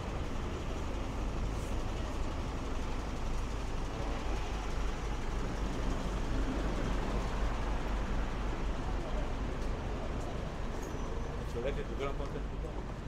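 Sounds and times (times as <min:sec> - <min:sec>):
diesel lorry idling: 0:00.0 - 0:13.0
street traffic noise: 0:00.0 - 0:13.0.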